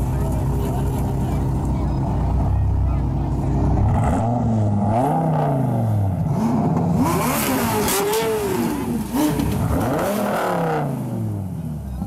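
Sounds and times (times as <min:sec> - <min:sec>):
sports car engine revving: 0:00.1 - 0:12.0.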